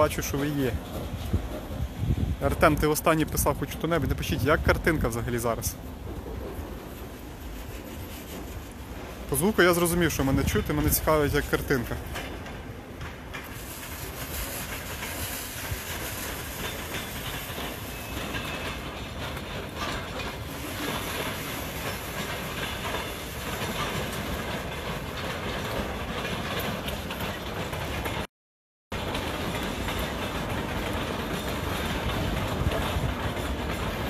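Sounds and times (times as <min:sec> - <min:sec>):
train running past: 0:00.0 - 0:28.3, 0:29.0 - 0:34.0.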